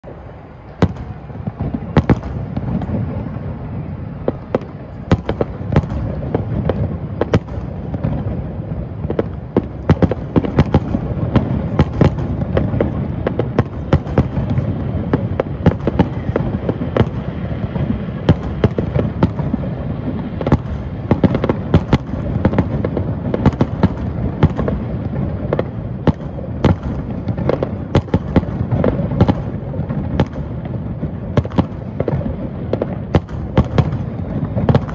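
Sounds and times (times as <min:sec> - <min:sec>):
fireworks cracks and bangs: 0:00.0 - 0:34.9
low rumble of distant bursts: 0:00.0 - 0:34.9.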